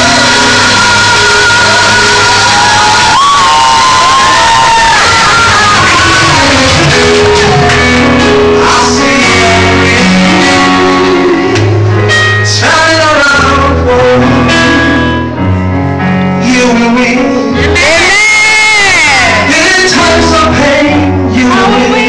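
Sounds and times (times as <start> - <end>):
man singing into microphone: 0.0 - 15.4, 16.3 - 22.0
backing music with bass notes: 0.0 - 22.0.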